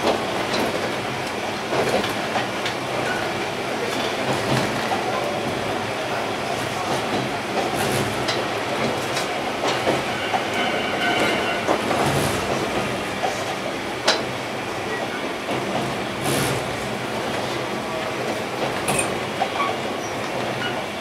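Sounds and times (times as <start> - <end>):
railcar rolling rumble: 0.0 - 21.0.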